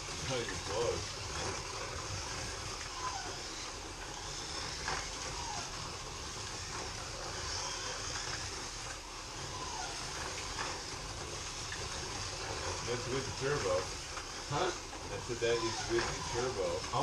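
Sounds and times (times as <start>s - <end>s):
small electric motors whining: 0.0s - 17.0s
toy cars rattling on track: 0.0s - 17.0s.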